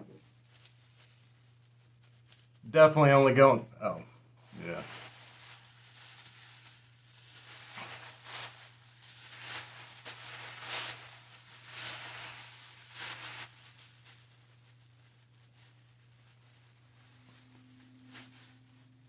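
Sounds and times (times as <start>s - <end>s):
low electrical hum: 0.0s - 19.0s
plastic bags crinkling: 0.1s - 2.6s, 4.4s - 19.0s.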